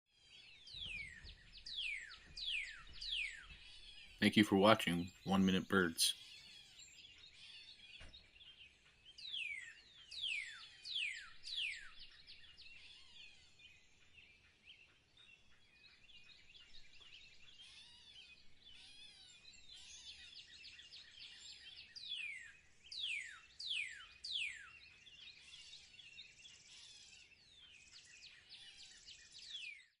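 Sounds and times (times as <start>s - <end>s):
bird twittering song: 0.2s - 30.0s.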